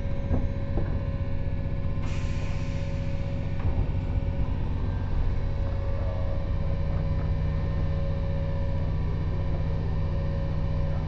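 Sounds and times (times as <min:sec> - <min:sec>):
train interior rumble and hum: 0:00.0 - 0:11.0.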